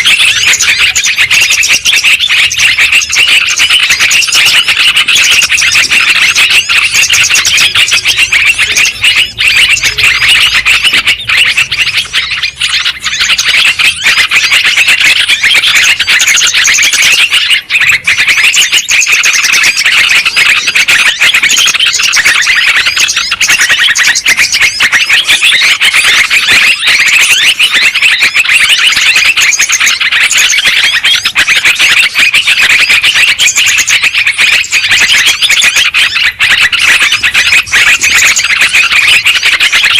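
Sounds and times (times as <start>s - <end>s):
birds chattering rapidly: 0.0s - 39.9s.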